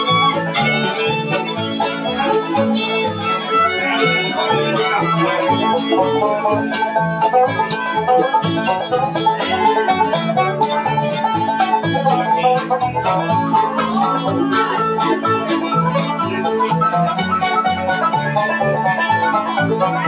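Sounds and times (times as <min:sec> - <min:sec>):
fiddle: 0:00.0 - 0:20.0
plucked-string picking: 0:00.0 - 0:20.0
strummed acoustic guitar: 0:00.0 - 0:20.0
upright bass notes: 0:00.0 - 0:20.0.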